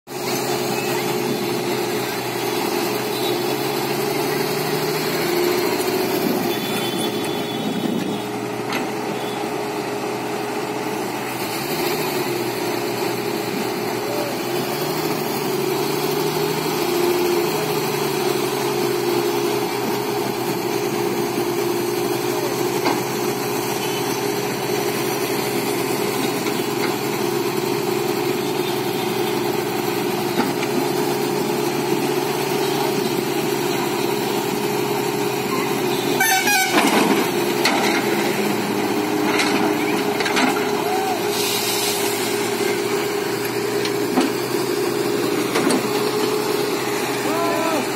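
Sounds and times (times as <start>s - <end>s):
heavy diesel engine running: 0.1s - 47.9s.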